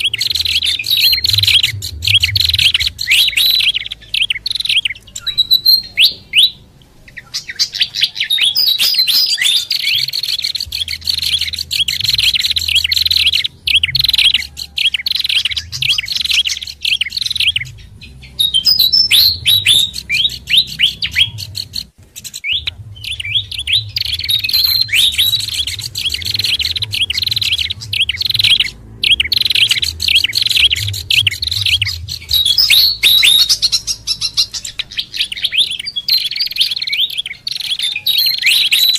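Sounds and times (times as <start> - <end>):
songbirds chattering chirps: 0.0 - 38.9.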